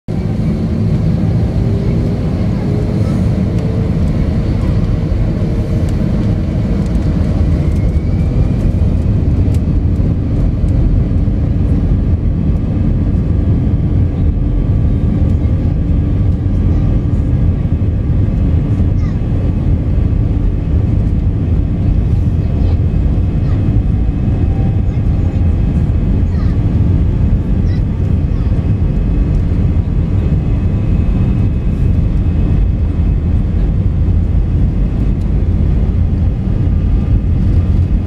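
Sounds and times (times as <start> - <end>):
jet engines rumbling: 0.1 - 38.0.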